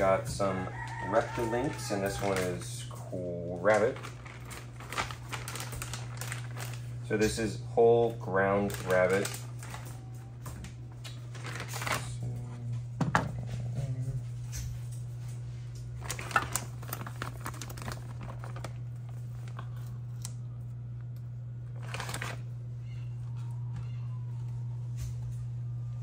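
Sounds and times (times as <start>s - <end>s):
plastic wrap crinkling: 0.0s - 12.2s, 14.8s - 20.8s, 21.6s - 24.5s
steady low hum: 0.0s - 26.0s.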